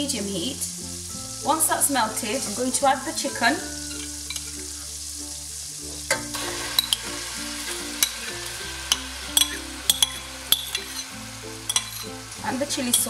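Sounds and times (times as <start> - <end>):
soft background music: 0.0 - 13.0
butter sizzling and bubbling: 0.3 - 13.0.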